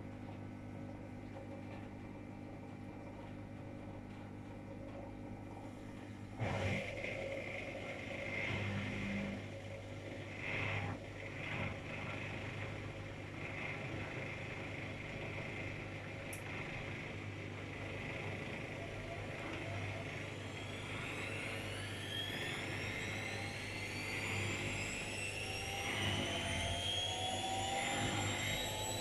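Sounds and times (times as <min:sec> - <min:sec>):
washing machine churning: 0:00.0 - 0:29.0
washing machine motor hum: 0:00.0 - 0:29.0.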